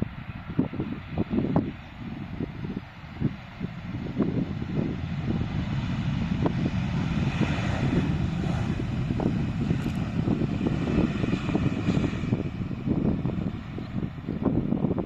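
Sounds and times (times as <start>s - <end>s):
faint jet airliner engine: 0.0s - 15.0s
wind buffeting microphone: 0.0s - 15.0s.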